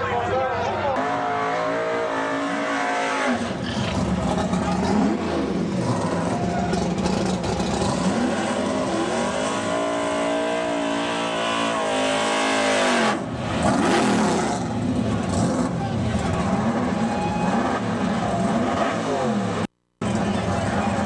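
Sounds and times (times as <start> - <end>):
race car engine revving: 1.0 - 21.0.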